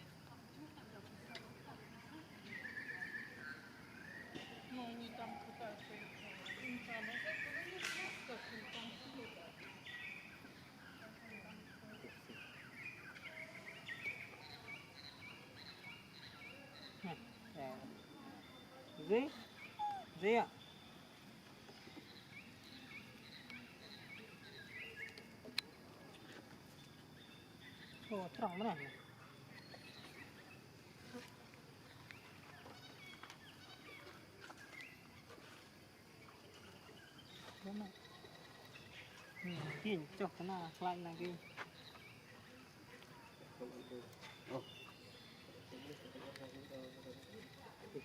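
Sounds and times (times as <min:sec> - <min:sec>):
birds chirping: 0:00.5 - 0:48.0.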